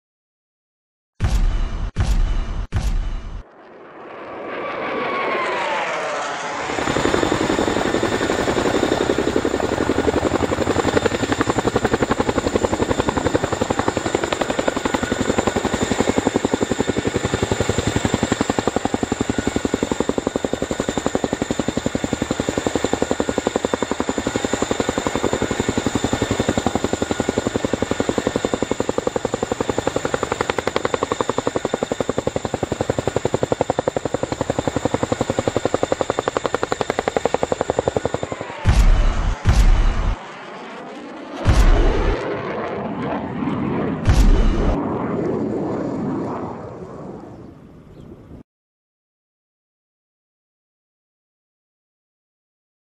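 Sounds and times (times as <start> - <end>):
helicopter rotor beat: 1.2 - 46.6
high turbine whine: 1.4 - 45.0.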